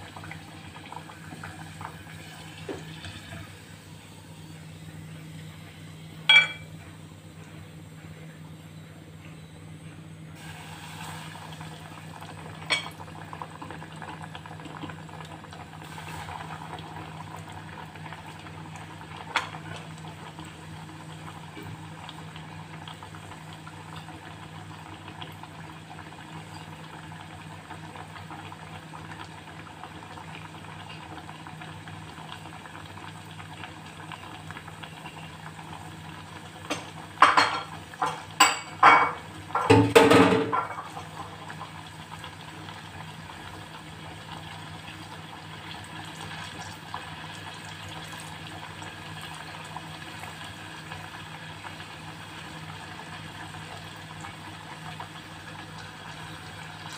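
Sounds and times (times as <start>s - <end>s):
pot bubbling on gas burner: 0.0s - 56.9s.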